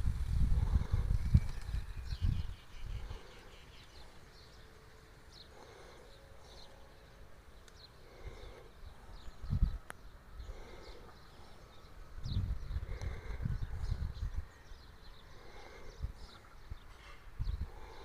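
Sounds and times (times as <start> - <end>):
outdoor ambience: 0.0 - 18.0
faint bird chirps: 0.7 - 18.0.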